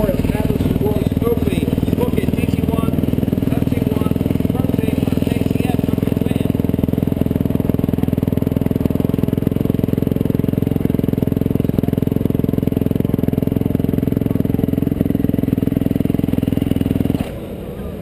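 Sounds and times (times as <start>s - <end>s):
motorcycle engine running at low revs: 0.0s - 18.0s.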